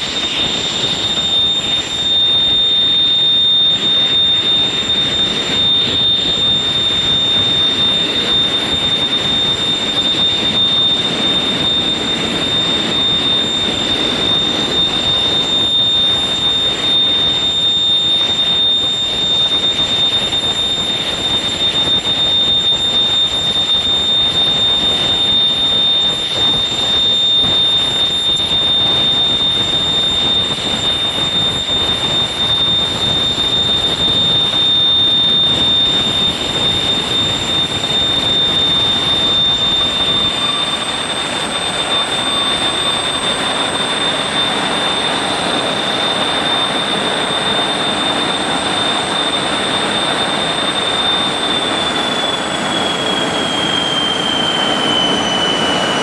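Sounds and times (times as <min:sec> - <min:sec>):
jet engines whining and roaring: 0:00.0 - 0:56.0.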